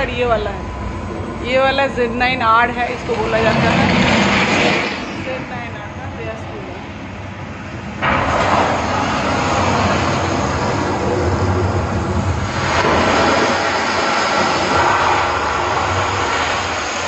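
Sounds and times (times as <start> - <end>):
loud rushing noise from speakers: 0.0 - 17.0.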